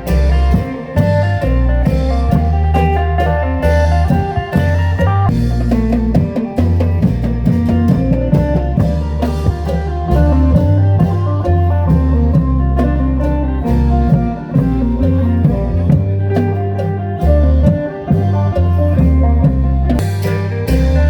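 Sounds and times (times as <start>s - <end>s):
bass line: 0.0s - 21.0s
steady drum beats: 0.0s - 21.0s.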